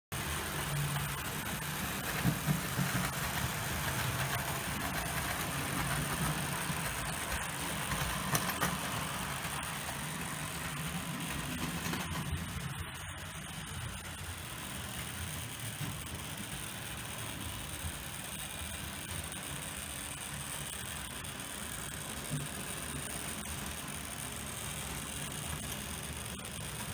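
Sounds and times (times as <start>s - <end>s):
wheels rolling on track: 0.1s - 26.9s
electric motor hum: 0.2s - 26.9s.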